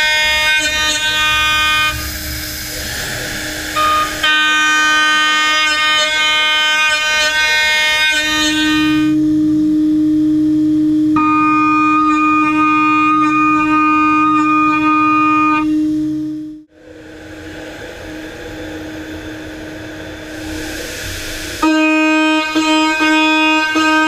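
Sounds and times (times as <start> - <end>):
milling spindle whine: 0.0 - 24.0.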